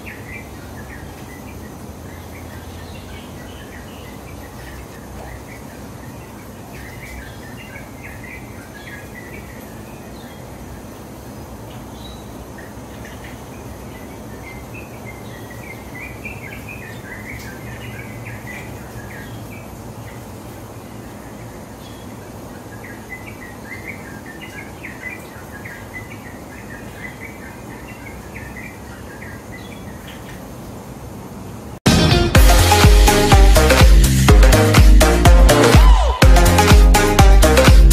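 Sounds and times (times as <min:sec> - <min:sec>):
small birds chirping: 0:00.0 - 0:31.5
outdoor background noise: 0:00.0 - 0:37.6.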